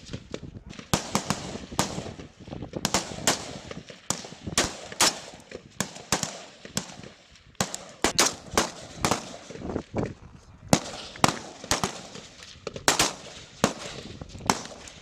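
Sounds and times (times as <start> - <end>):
rifle shots with echo: 0.0 - 9.9, 10.7 - 15.0.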